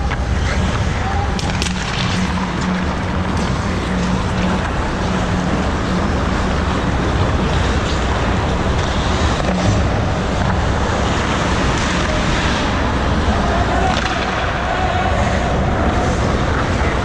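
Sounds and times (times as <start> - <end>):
ice rink rushing noise: 0.0 - 17.0
low hum: 0.0 - 17.0.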